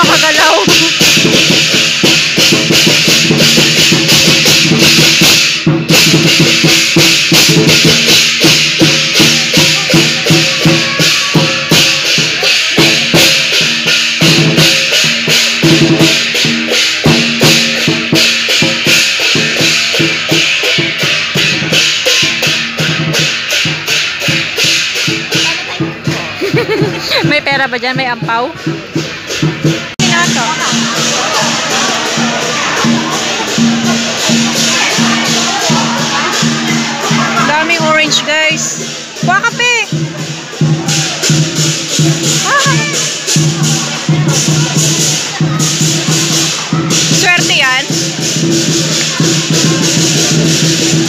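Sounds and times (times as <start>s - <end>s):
crashing cymbals: 0.0s - 27.2s, 28.6s - 51.0s
big drum beating: 0.0s - 51.0s.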